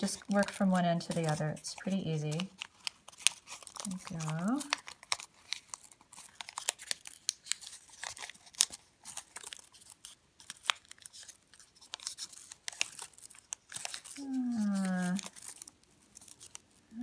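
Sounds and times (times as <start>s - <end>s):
paper crackling and crinkling: 0.0s - 17.0s.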